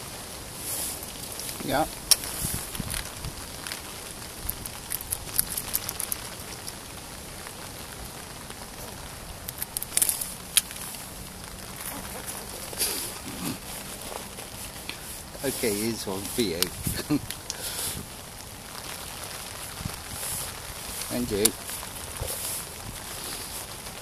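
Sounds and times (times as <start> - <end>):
light rain: 0.0 - 24.0.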